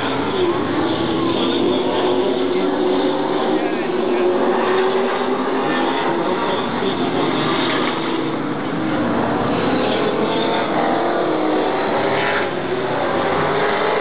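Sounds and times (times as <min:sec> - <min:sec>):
racing car engines passing: 0:00.0 - 0:14.0.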